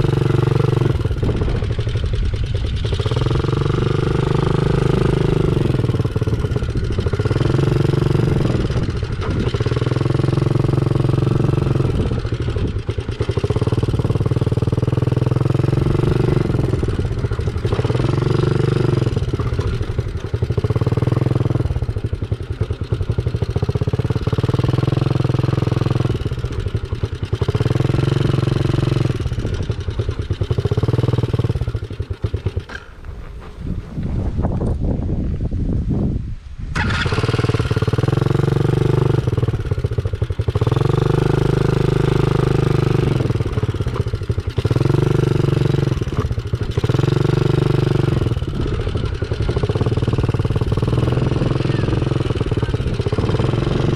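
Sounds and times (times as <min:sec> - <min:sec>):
dirt bike engine revving: 0:00.0 - 0:33.9, 0:36.7 - 0:53.9.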